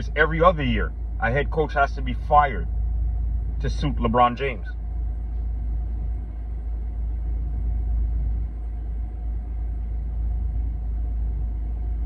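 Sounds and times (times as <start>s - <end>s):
car cabin low rumble: 0.0s - 12.0s
faint steady hum: 0.0s - 12.0s.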